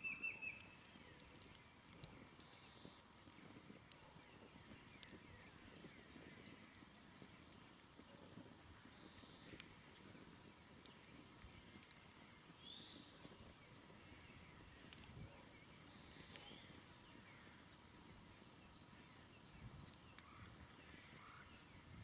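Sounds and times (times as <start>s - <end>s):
faint bird chirps: 0.0s - 21.9s
faint campfire crackling: 0.0s - 22.0s.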